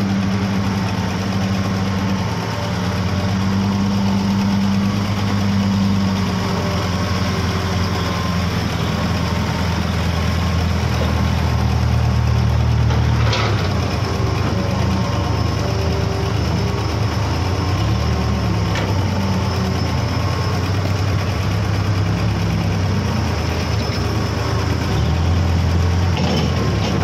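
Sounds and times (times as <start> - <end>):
excavator diesel engines working: 0.0 - 27.0.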